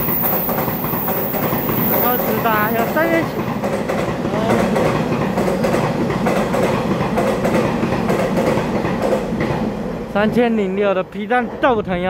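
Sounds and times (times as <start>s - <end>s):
wheels clattering over rails: 0.0s - 10.4s
electric train passing: 0.0s - 12.0s.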